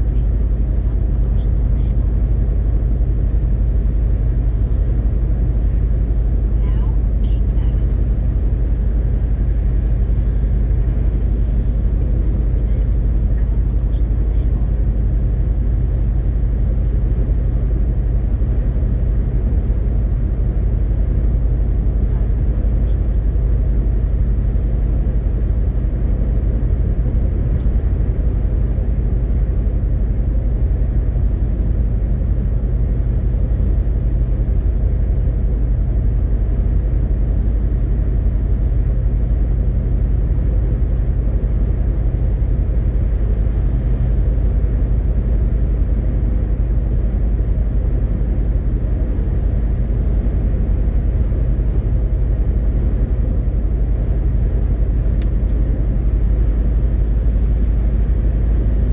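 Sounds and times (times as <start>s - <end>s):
diesel truck engine running: 0.0s - 58.9s
road and tyre noise: 0.0s - 58.9s.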